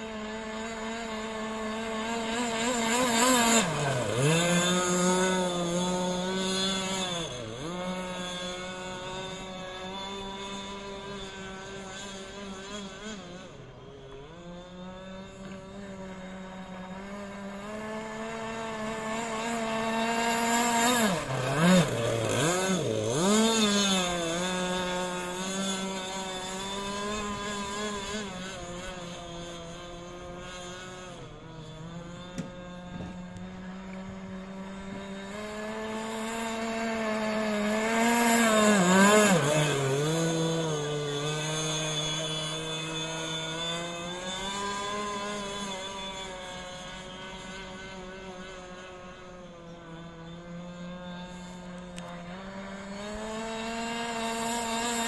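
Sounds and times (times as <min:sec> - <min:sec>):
model boat engine running: 0:00.0 - 0:55.0.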